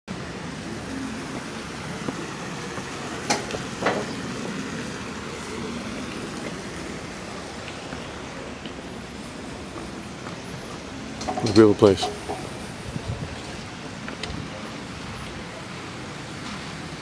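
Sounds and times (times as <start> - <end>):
outdoor background rush: 0.1 - 17.0.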